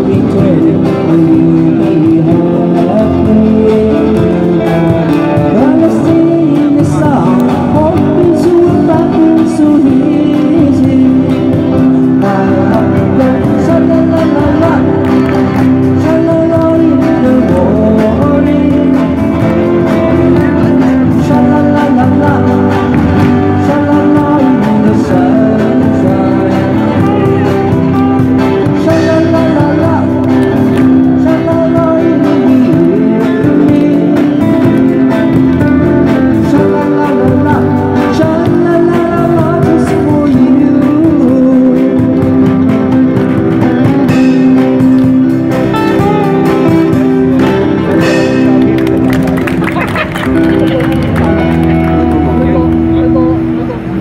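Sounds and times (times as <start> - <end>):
person singing: 0.0 - 49.1, 49.7 - 54.0
live band playing pop song: 0.0 - 54.0.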